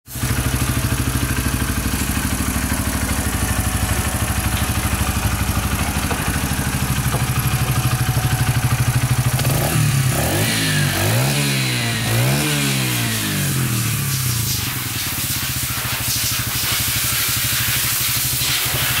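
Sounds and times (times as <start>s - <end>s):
motorcycle engine idling and revving: 0.1s - 19.0s.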